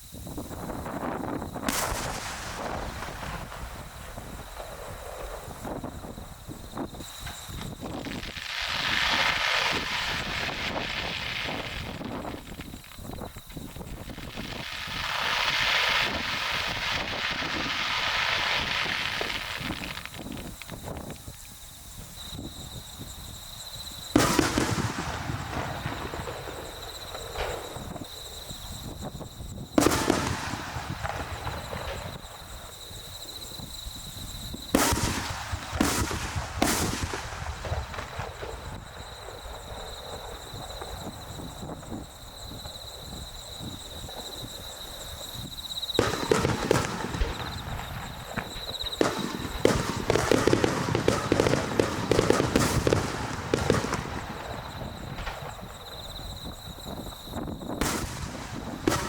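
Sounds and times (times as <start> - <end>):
firework shells bursting: 0.5 - 21.5, 24.0 - 59.0.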